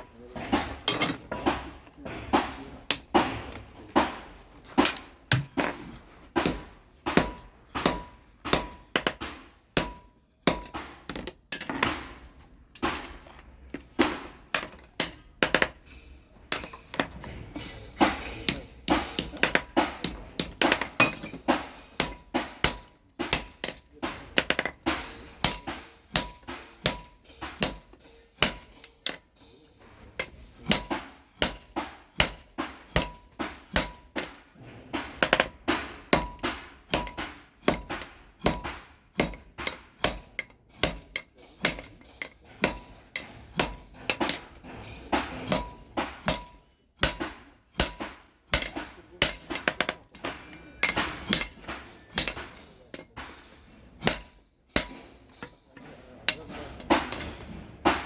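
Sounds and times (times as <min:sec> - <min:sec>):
hammer striking steel on anvil: 0:00.2 - 0:58.0.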